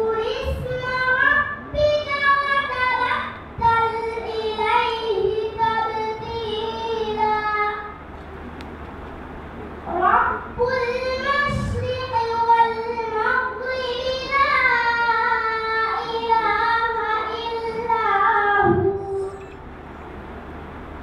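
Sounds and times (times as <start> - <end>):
girl chanting melodically: 0.0 - 7.9, 9.9 - 19.4.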